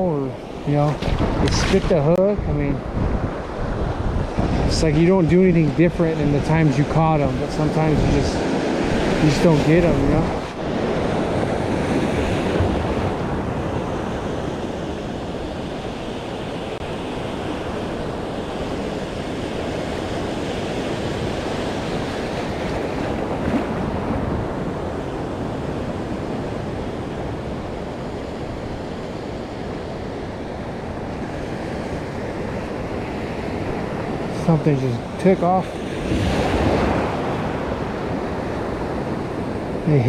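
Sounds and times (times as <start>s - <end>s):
ocean surf washing in: 0.0s - 40.0s
wind on microphone: 0.0s - 40.0s.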